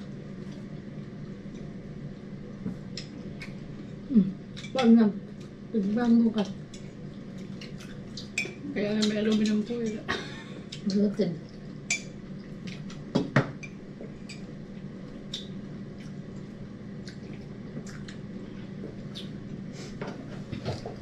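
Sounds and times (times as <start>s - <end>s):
people eating with hands: 0.0s - 21.0s
steady low hum: 0.0s - 21.0s.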